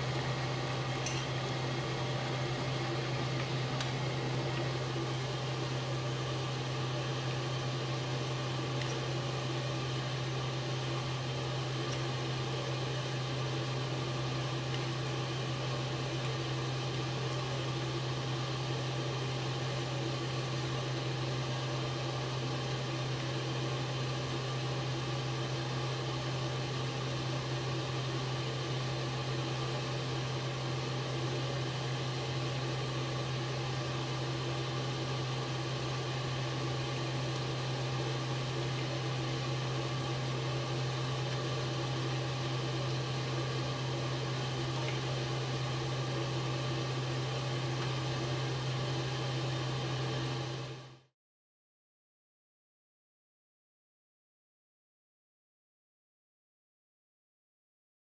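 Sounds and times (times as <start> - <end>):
exhaust fan hum and hiss: 0.0 - 51.0.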